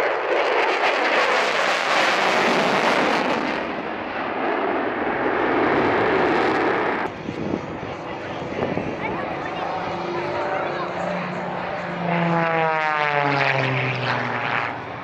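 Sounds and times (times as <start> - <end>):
fighter jet roar: 0.0 - 15.0.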